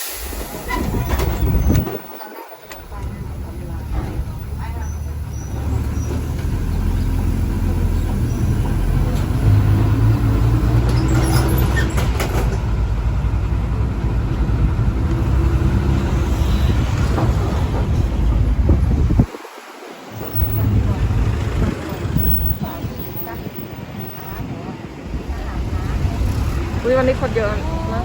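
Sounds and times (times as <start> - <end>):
vehicle engine hum and road noise: 2.8 - 28.0.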